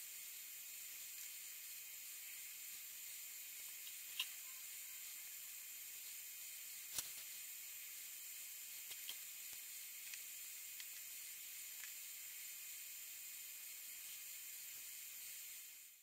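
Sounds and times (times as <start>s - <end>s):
faint recording hiss: 0.0s - 16.0s.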